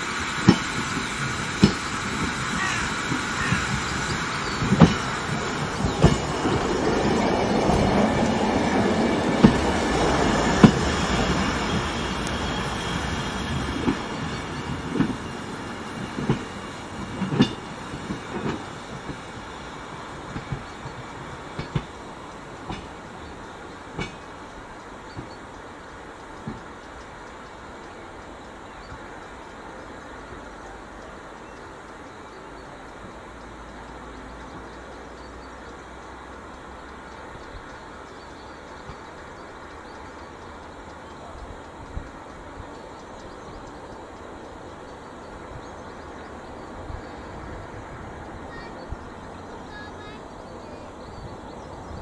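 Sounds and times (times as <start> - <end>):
train rolling past: 0.0 - 52.0
wheels clicking over rail joints: 0.0 - 52.0.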